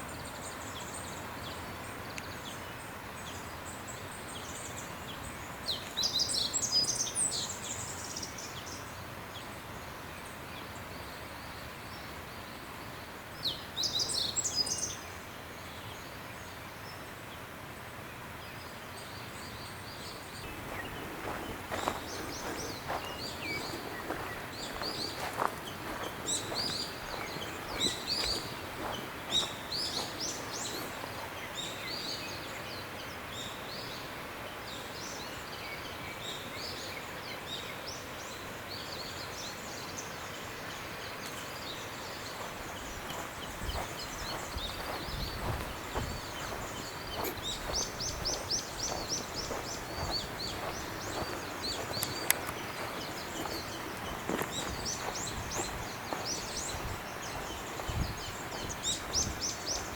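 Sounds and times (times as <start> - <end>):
wild birds chirping and singing: 0.0 - 17.5, 18.2 - 59.9
steady outdoor hiss: 0.0 - 59.9.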